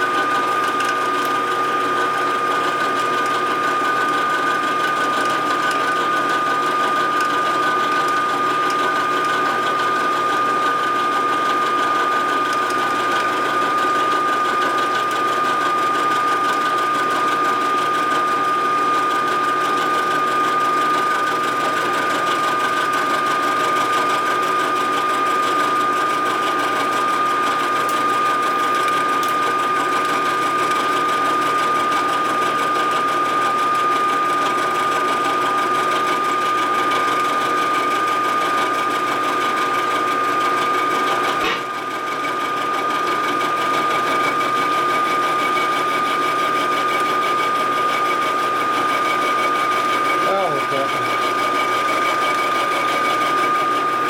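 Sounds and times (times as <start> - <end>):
milling machine cutting metal: 0.0 - 54.0.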